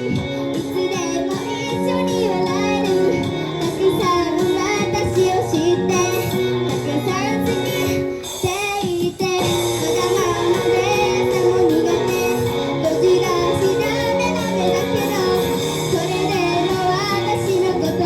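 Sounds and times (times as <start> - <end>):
woman singing pop song: 0.0 - 18.0.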